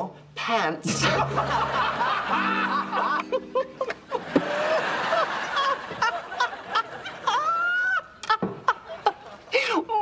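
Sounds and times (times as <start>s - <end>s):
audience laughter: 0.9s - 9.5s.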